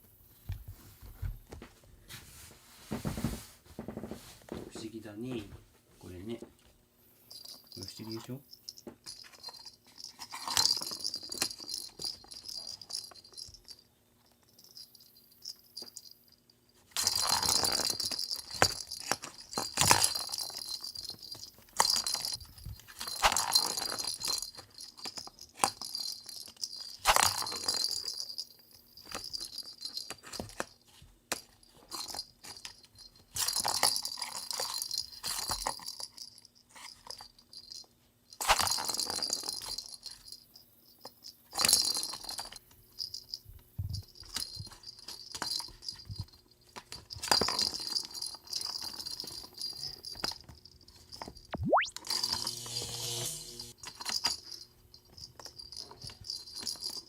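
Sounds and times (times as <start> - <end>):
small bell jingling: 7.2 - 16.4, 17.0 - 30.4, 31.8 - 37.9, 38.6 - 51.5, 52.4 - 57.0.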